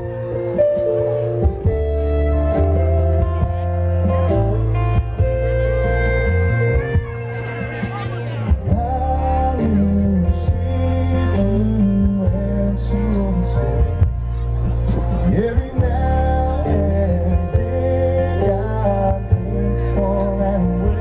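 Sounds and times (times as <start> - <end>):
live country band playing: 0.0 - 21.0
person singing: 0.0 - 21.0.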